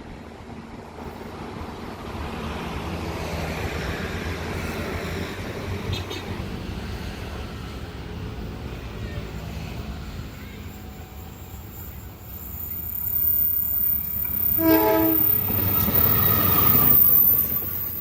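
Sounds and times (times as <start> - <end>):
train passing: 0.0 - 18.0.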